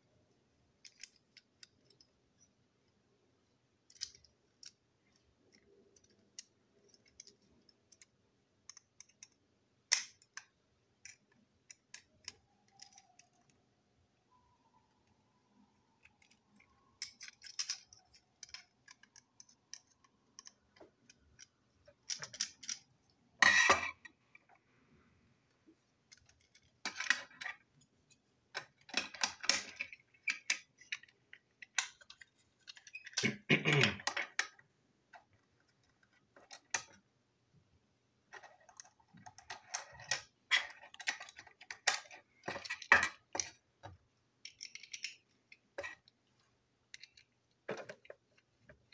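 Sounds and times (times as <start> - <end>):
plastic parts clicking and clattering: 0.7 - 24.6, 25.6 - 37.1, 38.3 - 48.9.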